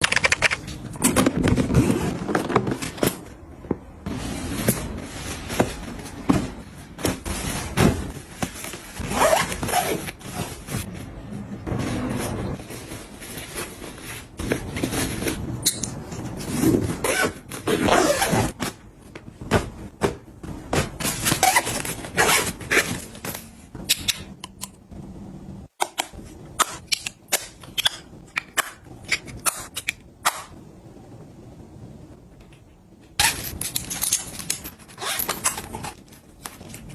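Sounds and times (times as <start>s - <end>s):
rustling and shuffling objects: 0.1s - 26.6s, 30.9s - 36.9s.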